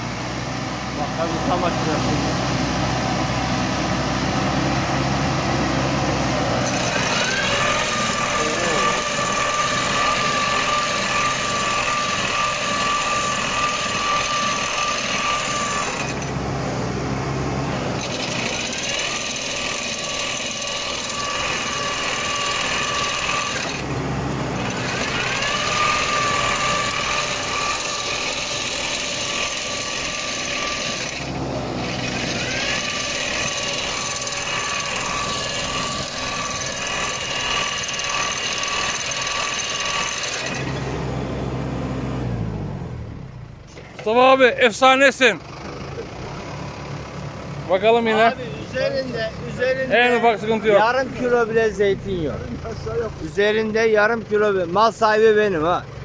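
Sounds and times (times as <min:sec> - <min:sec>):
tree shaker mechanical whine: 0:00.0 - 0:56.0.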